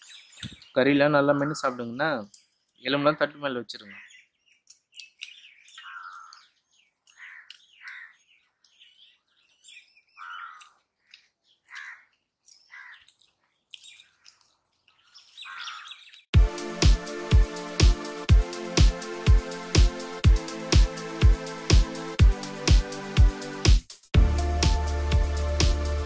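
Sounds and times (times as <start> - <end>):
birds chirping: 0.0 - 23.3.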